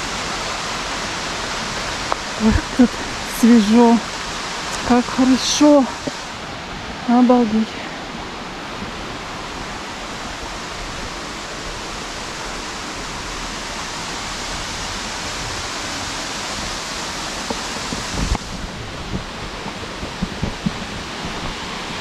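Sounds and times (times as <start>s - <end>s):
stream running over rocks: 0.0s - 22.0s
waterfall rushing: 0.0s - 22.0s.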